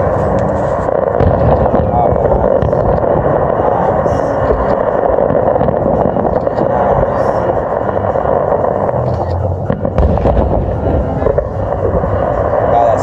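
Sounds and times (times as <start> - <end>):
fireworks going off: 0.0 - 13.0.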